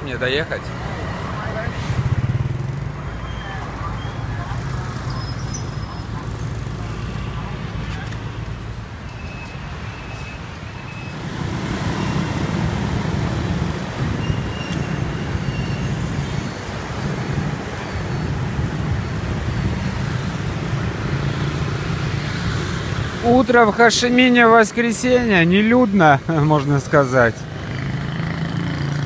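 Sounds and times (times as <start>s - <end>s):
cars passing: 0.0s - 29.0s
motor scooters passing: 0.0s - 29.0s.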